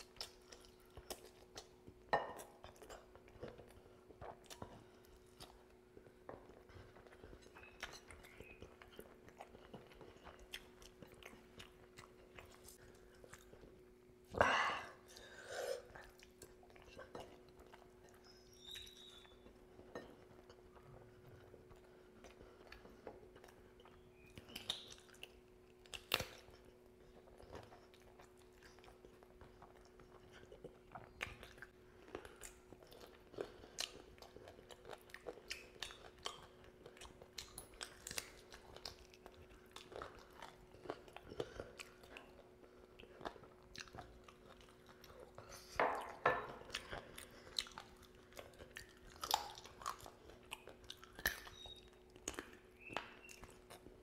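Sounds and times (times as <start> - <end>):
wet chewing: 0.0 - 14.3, 15.0 - 54.0.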